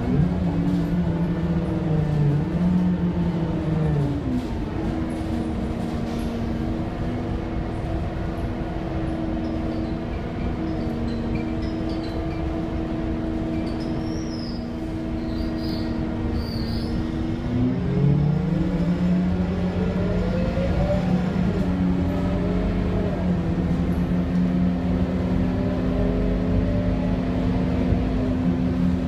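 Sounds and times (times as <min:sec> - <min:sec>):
bus engine hum: 0:00.0 - 0:29.0.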